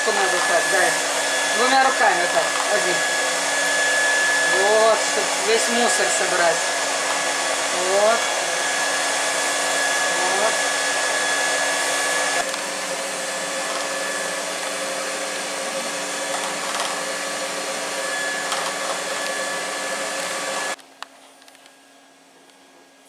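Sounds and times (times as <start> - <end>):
vacuum cleaner running: 0.0 - 20.8.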